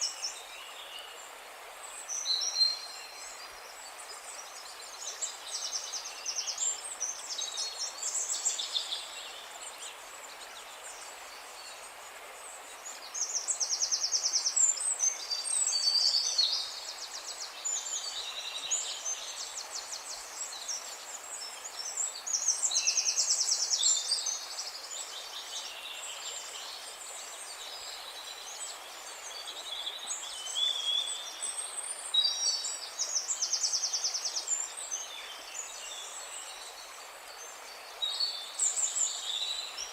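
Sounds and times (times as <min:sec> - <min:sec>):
background hiss: 0:00.0 - 0:39.9
songbirds singing: 0:00.0 - 0:39.9.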